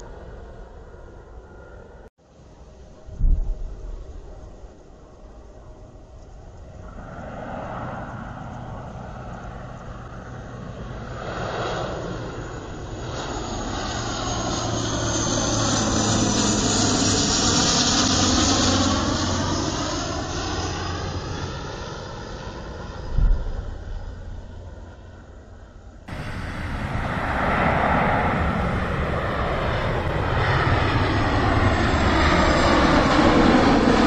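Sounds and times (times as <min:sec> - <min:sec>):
turboprop airliner droning overhead: 0:00.0 - 0:34.0.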